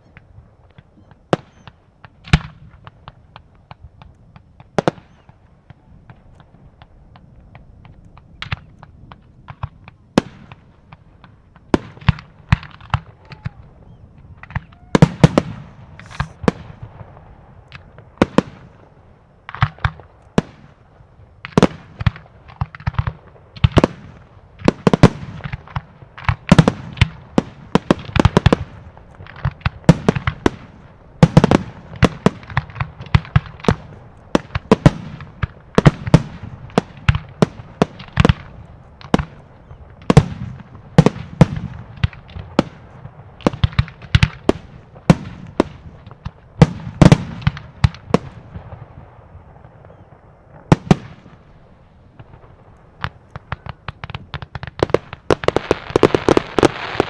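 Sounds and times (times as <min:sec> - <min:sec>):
fireworks launching and bursting: 0:00.0 - 0:57.0.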